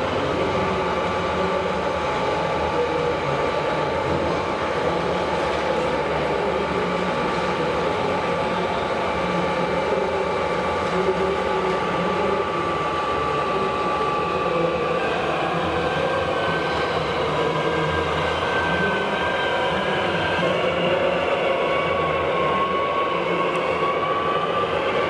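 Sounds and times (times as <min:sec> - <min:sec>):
busy hall crowd din: 0:00.0 - 0:25.0
hydraulic mechanical whine: 0:00.0 - 0:25.0.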